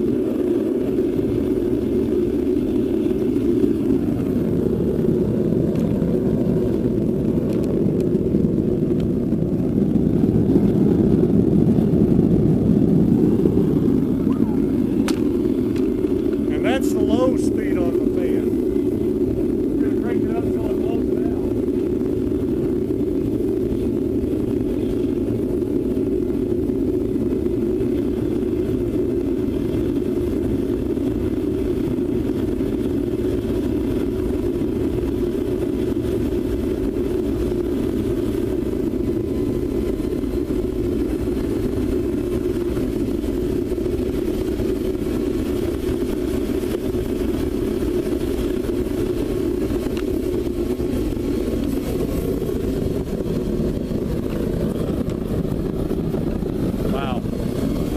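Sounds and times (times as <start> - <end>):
burner flame and blower rushing: 0.0 - 57.9.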